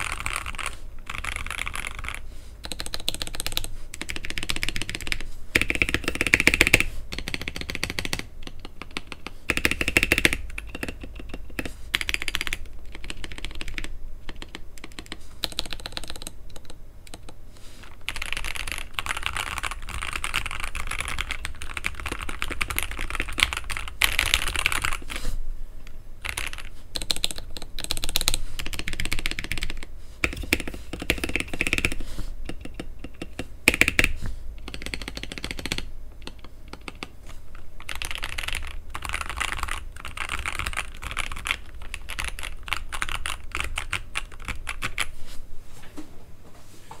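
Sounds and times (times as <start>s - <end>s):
mechanical keyboard typing: 0.0s - 17.4s, 18.1s - 25.1s, 26.2s - 37.1s, 37.8s - 45.1s.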